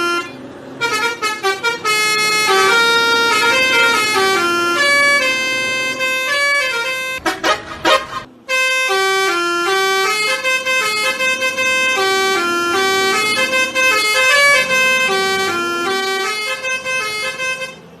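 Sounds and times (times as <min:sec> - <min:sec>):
bus horn playing a melody: 0:00.0 - 0:18.0.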